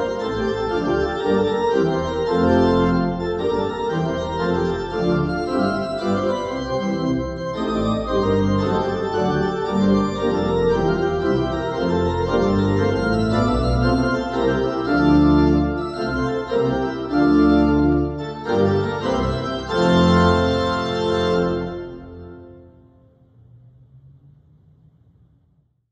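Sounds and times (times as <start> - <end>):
church organ chords: 0.0 - 23.4.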